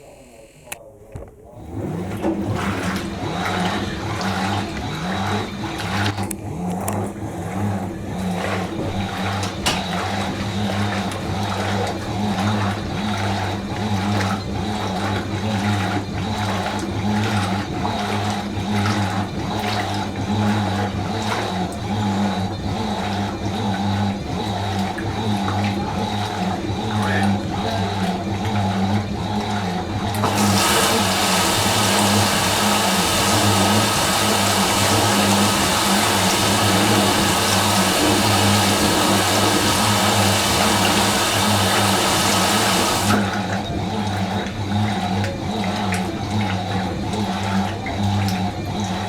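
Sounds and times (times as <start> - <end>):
washing machine running: 0.0 - 49.0.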